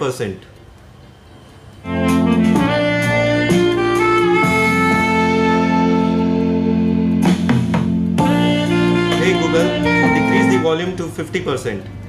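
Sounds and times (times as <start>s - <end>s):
instrumental music from speaker: 1.2s - 12.0s.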